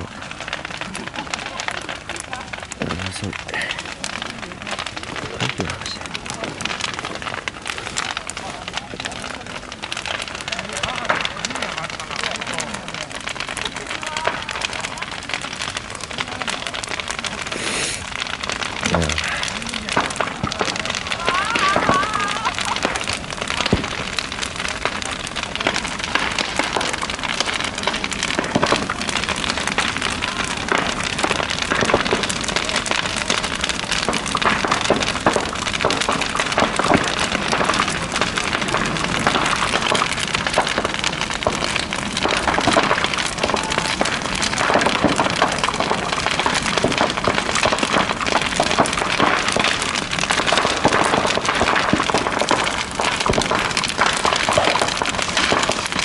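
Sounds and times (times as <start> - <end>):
burning wood crackling and popping: 0.0 - 56.0
flames rushing: 0.0 - 56.0.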